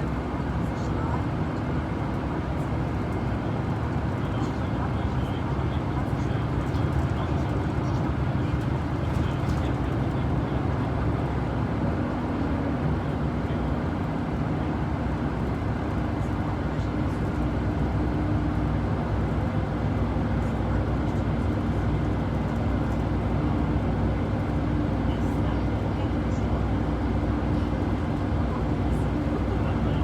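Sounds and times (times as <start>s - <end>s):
bus engine hum and road rumble: 0.0s - 30.0s.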